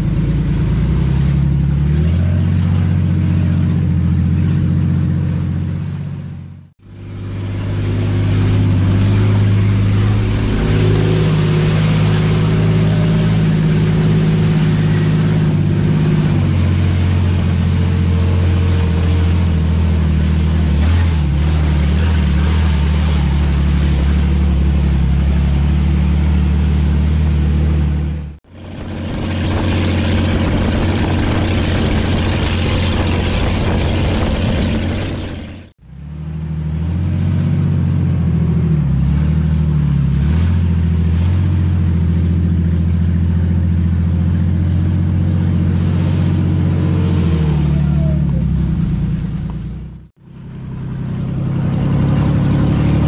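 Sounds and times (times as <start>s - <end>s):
off-road vehicle engine drone: 0.0s - 53.0s.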